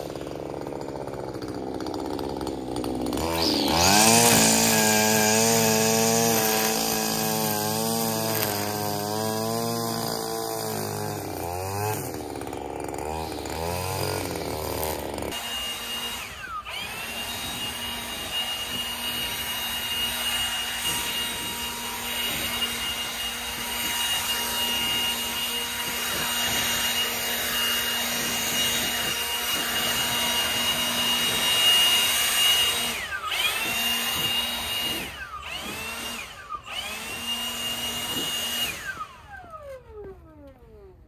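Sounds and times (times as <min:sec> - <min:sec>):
leaf blower whining: 0:00.0 - 0:41.0.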